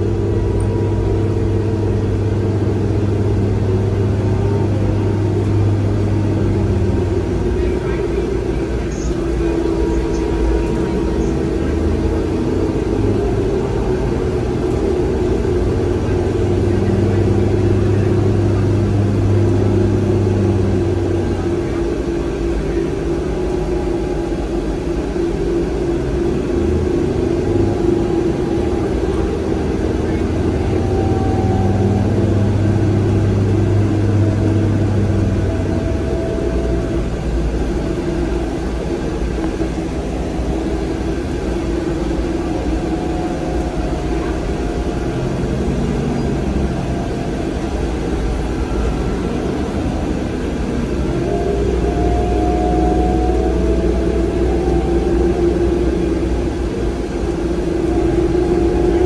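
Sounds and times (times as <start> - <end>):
bus engine rumble and hum: 0.0 - 59.0
deep drone: 0.0 - 59.0.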